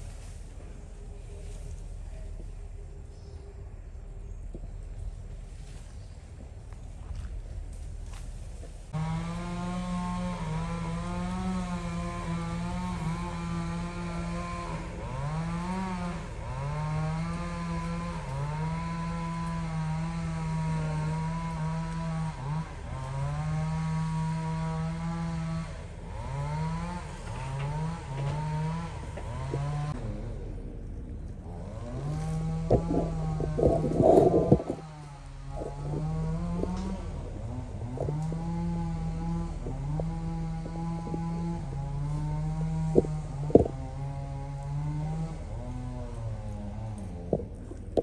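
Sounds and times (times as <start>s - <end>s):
small engine revving: 7.0s - 48.0s.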